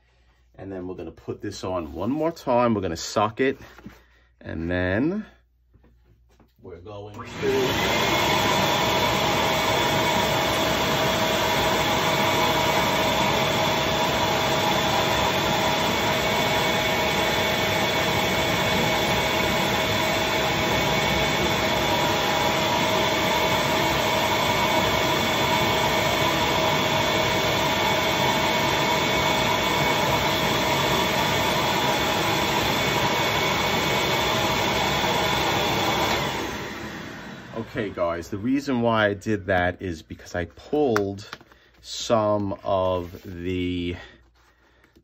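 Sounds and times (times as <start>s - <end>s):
shop vac whining: 5.2s - 45.0s.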